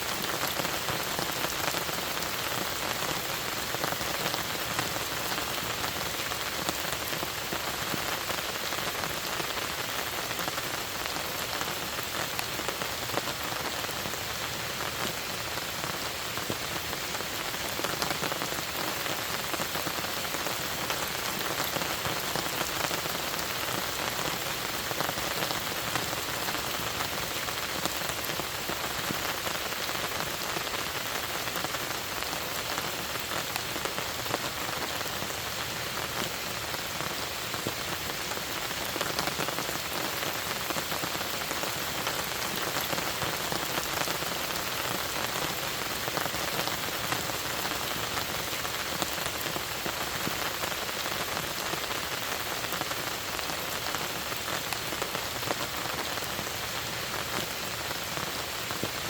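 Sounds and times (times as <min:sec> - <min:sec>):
rain falling on a lake: 0:00.0 - 0:59.0.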